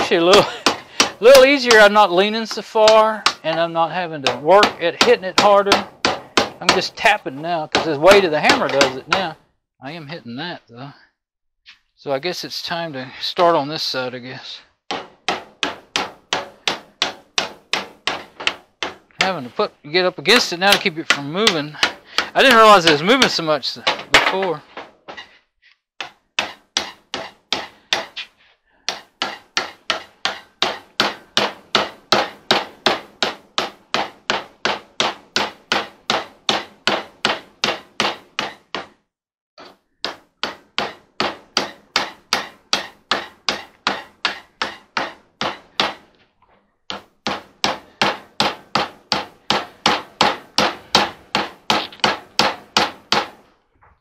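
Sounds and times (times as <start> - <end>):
hammer tapping: 0.0 - 9.4, 14.9 - 25.3, 26.0 - 28.3, 28.9 - 39.0, 39.6 - 46.1, 46.9 - 53.4.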